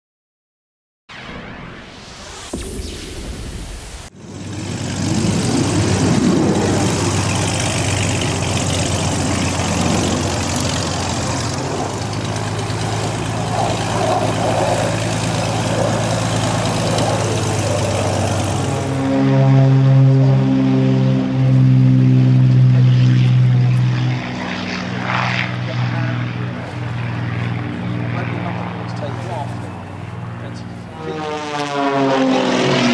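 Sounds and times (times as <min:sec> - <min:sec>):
propeller plane engine droning: 0:01.2 - 0:32.9.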